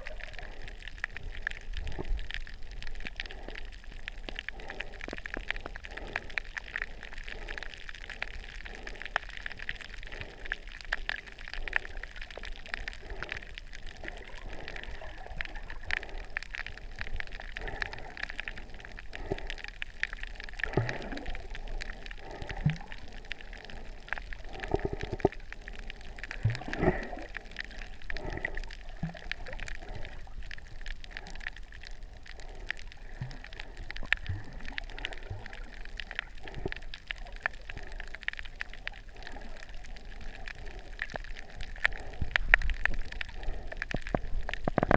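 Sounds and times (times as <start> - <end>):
bubbling gurgles: 0.0 - 44.9
underwater crackle of clicks: 0.0 - 44.9.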